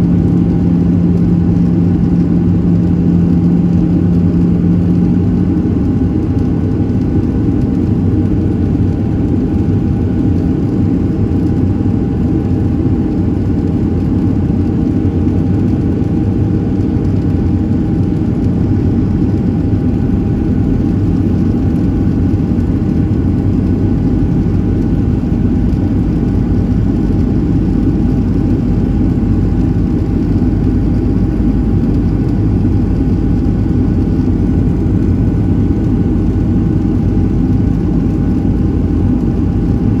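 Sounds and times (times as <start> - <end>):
faint steady whine: 0.0 - 40.0
jet engines rumbling: 0.0 - 40.0.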